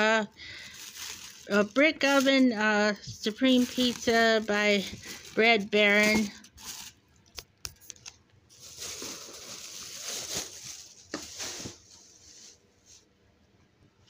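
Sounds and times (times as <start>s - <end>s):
plastic bag rustling: 0.0s - 7.0s, 7.8s - 13.1s.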